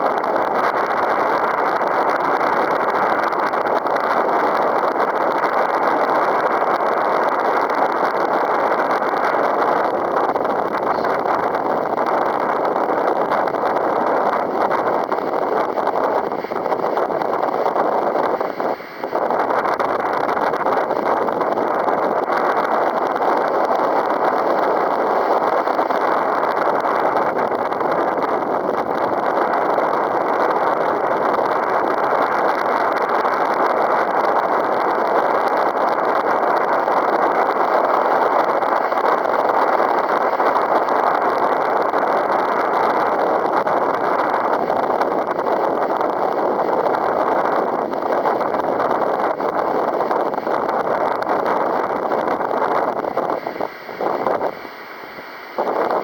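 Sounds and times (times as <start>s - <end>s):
gusty wind on microphone: 0.0s - 56.0s.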